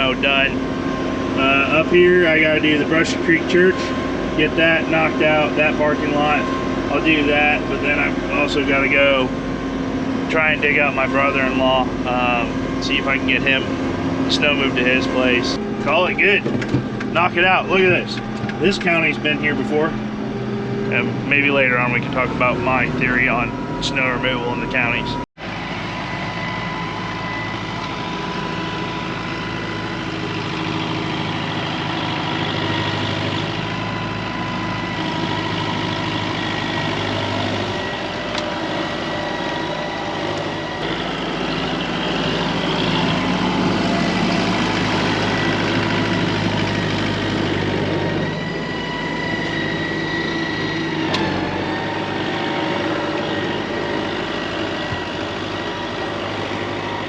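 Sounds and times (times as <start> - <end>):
thin steady whine: 0.0 - 57.0
vehicle engine running: 0.0 - 57.0.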